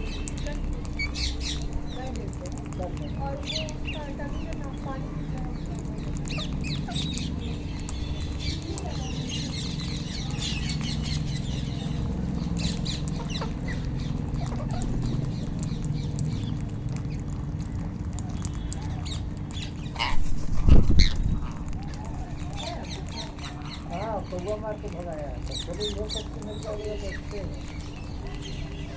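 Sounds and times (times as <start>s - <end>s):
parakeets squawking: 0.0s - 28.9s.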